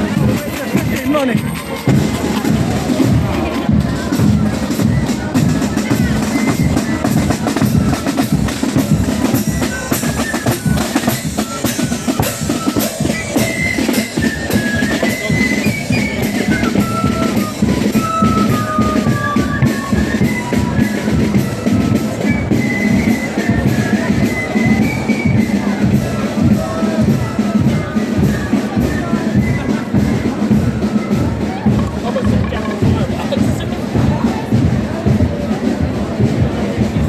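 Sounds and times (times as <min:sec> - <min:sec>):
marching band drums: 0:00.0 - 0:37.0.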